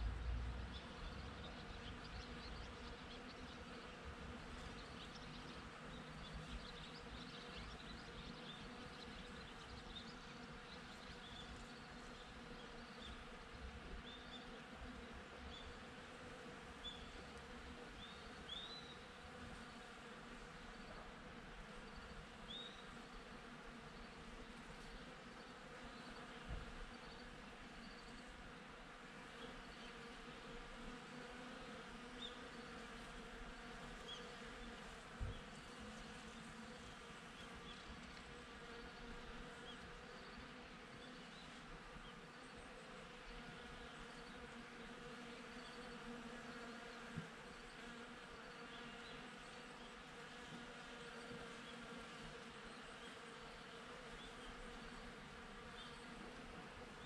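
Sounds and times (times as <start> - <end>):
honeybees buzzing: 0.0 - 57.0.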